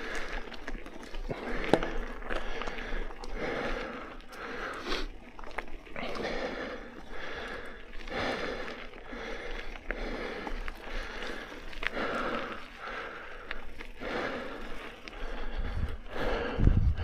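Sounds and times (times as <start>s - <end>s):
bike clicks and rattles: 0.0s - 17.0s
person breathing hard: 1.2s - 5.2s, 6.0s - 17.0s.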